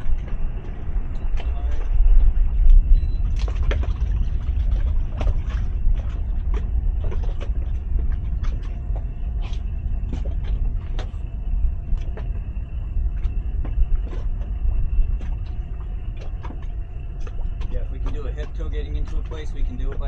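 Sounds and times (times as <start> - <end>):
outboard engine idling: 0.0 - 20.0
wind on microphone: 0.0 - 20.0.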